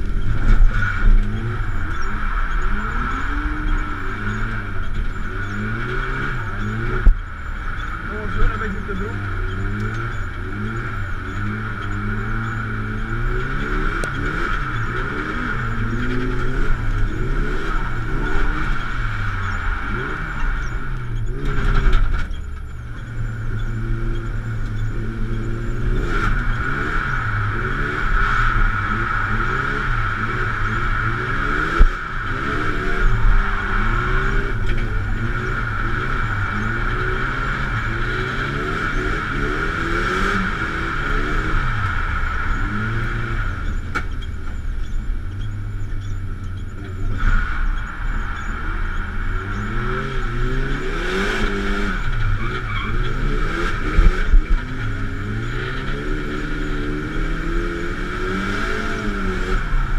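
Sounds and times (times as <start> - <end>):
car engine revving: 0.0 - 59.9
high whine: 0.0 - 59.9.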